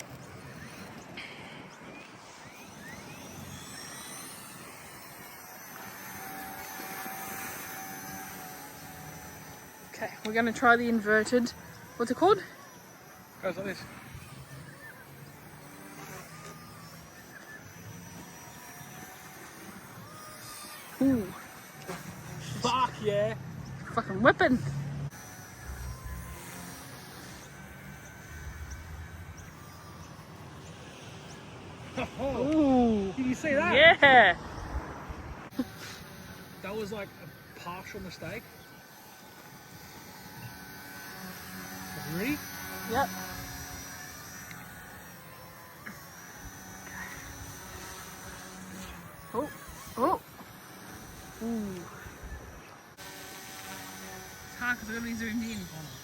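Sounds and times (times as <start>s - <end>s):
rc helicopter rotors whining: 0.0s - 56.0s.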